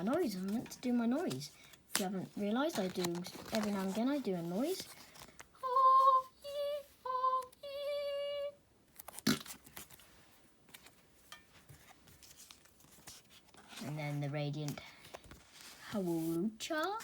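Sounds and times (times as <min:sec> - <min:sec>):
faint handling of cards: 0:00.0 - 0:06.3, 0:08.9 - 0:17.0.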